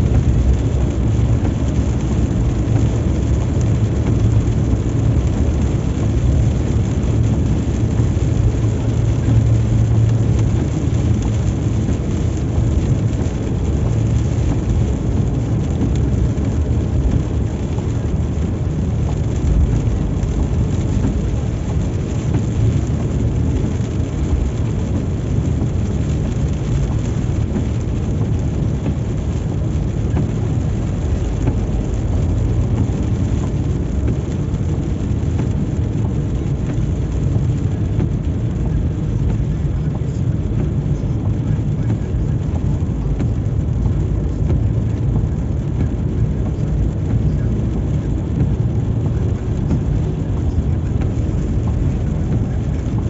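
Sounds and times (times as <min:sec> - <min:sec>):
car engine and tyres on wet road: 0:00.0 - 0:53.0
heavy rain: 0:00.0 - 0:53.0.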